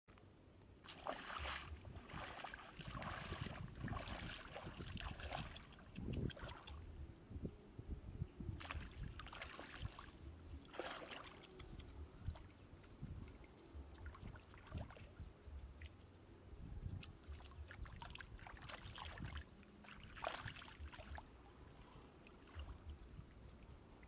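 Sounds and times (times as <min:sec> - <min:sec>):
muddy water sloshing and splashing: 0:00.8 - 0:06.9, 0:08.5 - 0:16.2, 0:16.8 - 0:24.0.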